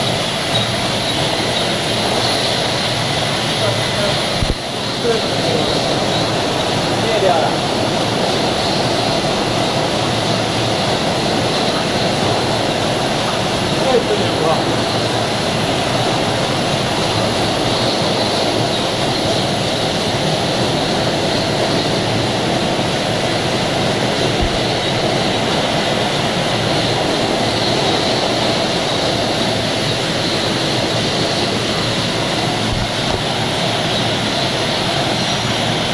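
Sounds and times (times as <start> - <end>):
production line machinery: 0.0 - 35.9.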